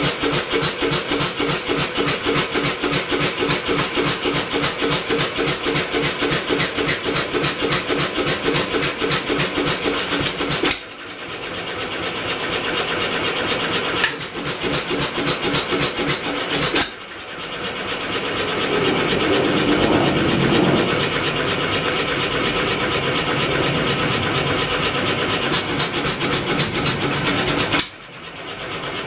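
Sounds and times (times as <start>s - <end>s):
engine beating rhythmically: 0.0s - 29.0s.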